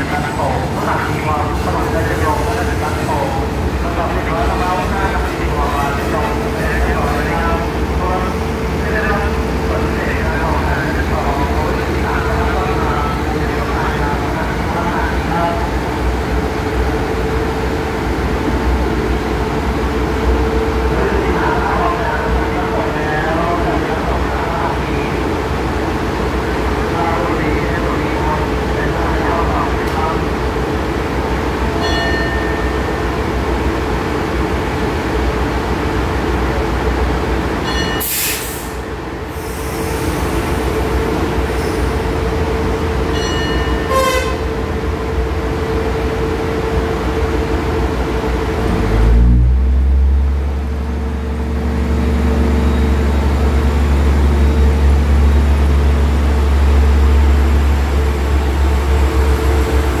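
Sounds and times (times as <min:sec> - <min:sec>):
diesel train engine humming: 0:00.0 - 1:00.0.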